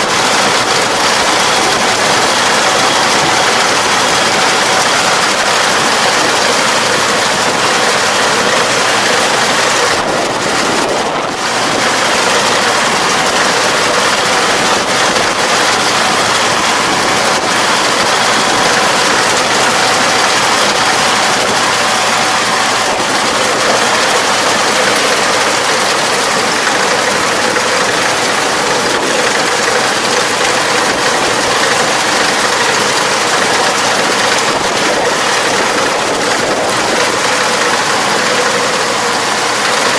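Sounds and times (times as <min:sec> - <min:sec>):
farm machine engine running: 0:00.0 - 0:39.9.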